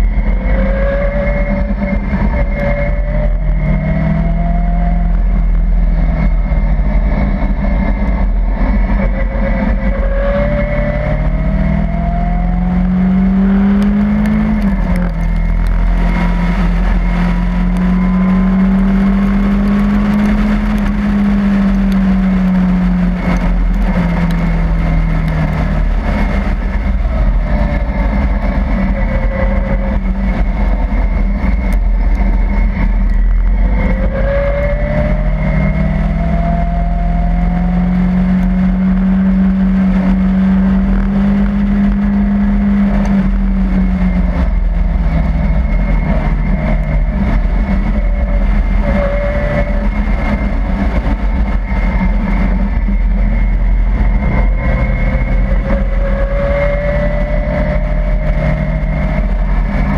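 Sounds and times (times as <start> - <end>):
car engine running under load: 0.0 - 59.9
wind rumble: 0.0 - 59.9.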